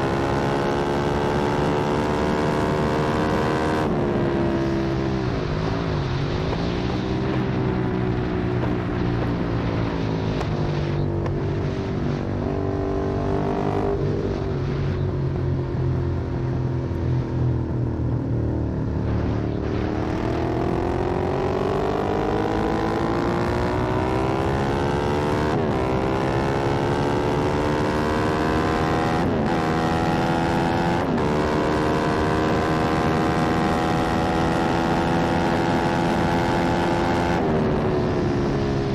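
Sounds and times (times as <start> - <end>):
motorcycle engine accelerating: 0.0 - 38.9
wind and road noise: 0.0 - 38.9.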